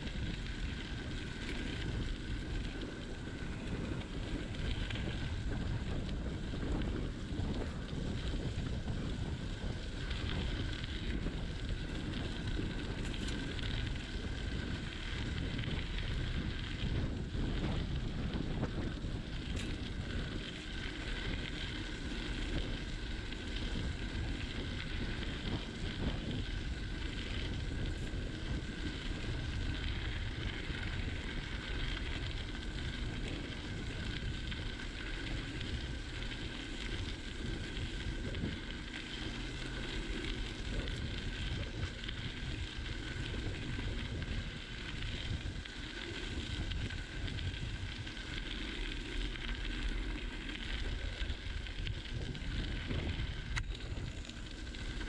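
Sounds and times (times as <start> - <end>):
bicycle tyres crunching on gravel: 0.0 - 55.0
wind buffeting microphone: 0.0 - 55.0.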